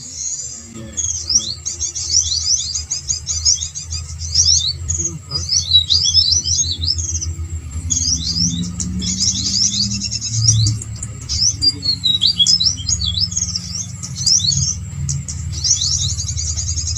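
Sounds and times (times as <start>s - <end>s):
songbirds chirping: 0.0s - 16.9s
steady low hum: 0.0s - 16.9s.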